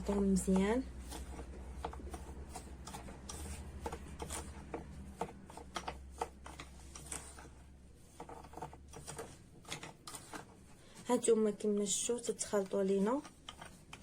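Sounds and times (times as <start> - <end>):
utensil scraping a bowl: 0.0 - 14.0.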